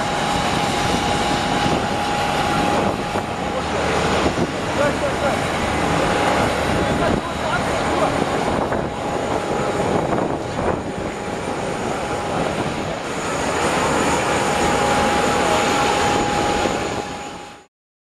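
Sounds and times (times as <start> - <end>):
aircraft engine running: 0.0 - 17.7.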